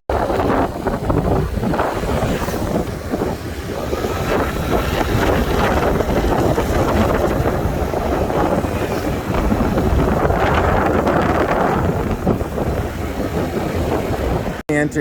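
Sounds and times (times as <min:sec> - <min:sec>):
wind rushing over microphone: 0:00.1 - 0:15.0.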